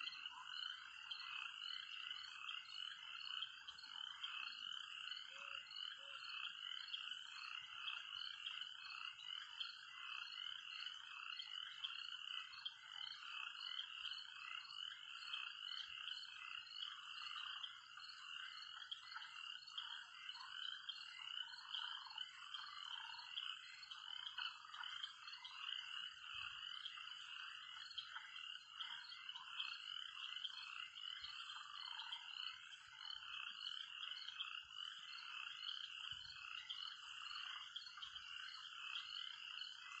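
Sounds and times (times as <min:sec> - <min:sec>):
chorus of calling animals: 0:00.0 - 0:40.0.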